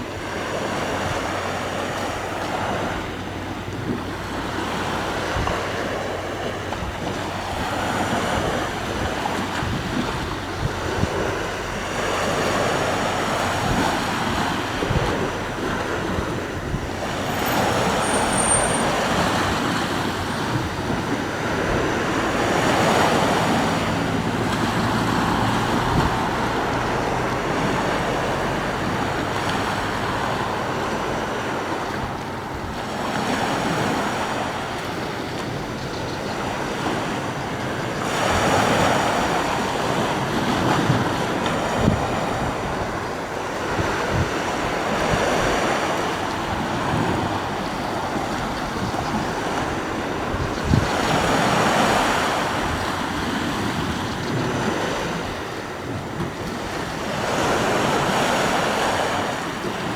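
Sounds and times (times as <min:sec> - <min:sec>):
sea waves breaking on shore: 0:00.0 - 0:59.9
wind rumbling on microphone: 0:00.0 - 0:59.9.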